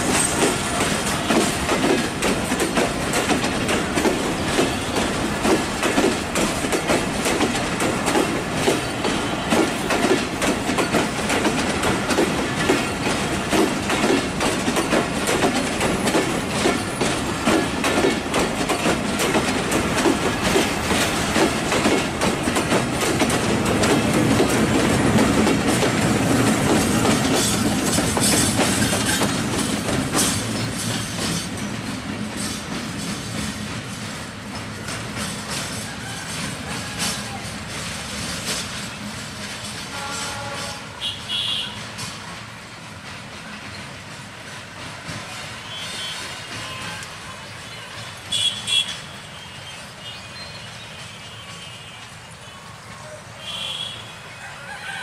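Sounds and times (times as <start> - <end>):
train wheels clacking over rail joints: 0.0 - 52.2
diesel locomotive passing: 0.0 - 55.0.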